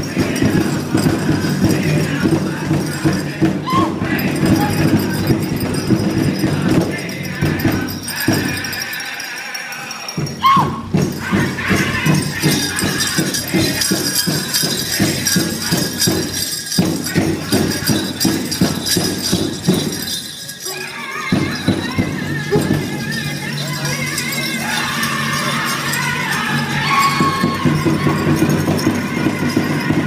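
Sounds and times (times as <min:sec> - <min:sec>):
drum beaten in a steady pulse: 0:00.0 - 0:09.1, 0:10.1 - 0:30.0
high-pitched group singing: 0:00.0 - 0:30.0
jingling bells: 0:00.0 - 0:30.0.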